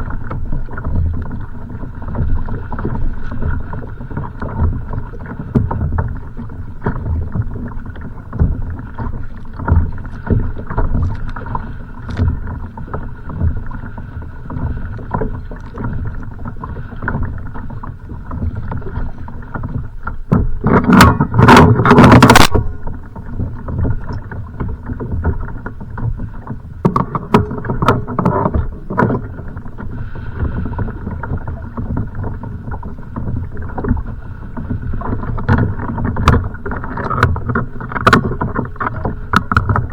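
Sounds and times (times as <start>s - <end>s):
water and wind wash: 0.0s - 39.9s
water slapping against hull: 0.0s - 39.9s.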